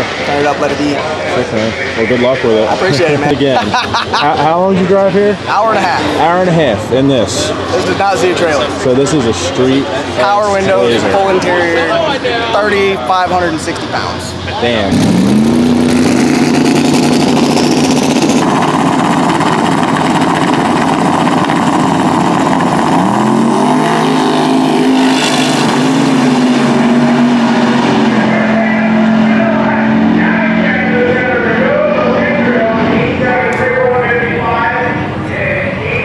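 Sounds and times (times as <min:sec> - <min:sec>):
drag-race cars at full throttle: 0:00.0 - 0:36.0
climbing engine note: 0:04.5 - 0:36.0.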